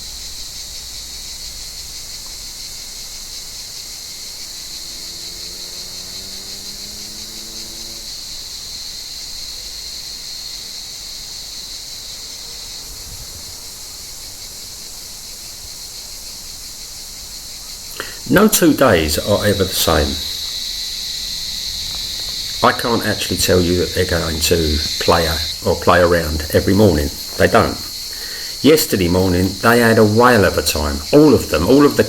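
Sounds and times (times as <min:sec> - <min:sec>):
cicadas buzzing: 0:00.0 - 0:32.0.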